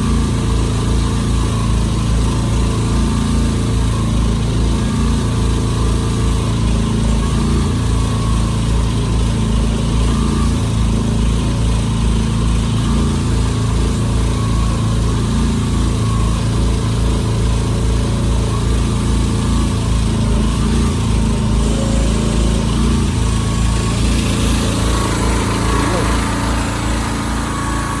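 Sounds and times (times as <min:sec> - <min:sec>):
mini excavator engine running: 0:00.0 - 0:28.0.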